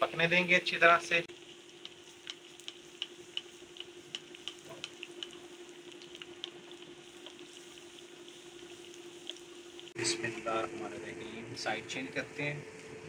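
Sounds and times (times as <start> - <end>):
bread sizzling in a pan: 1.2 - 13.0.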